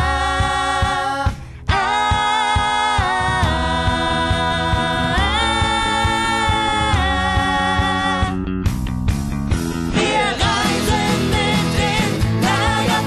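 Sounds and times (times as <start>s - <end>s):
choir-like chords over a beat: 0.0s - 8.4s, 9.8s - 13.0s.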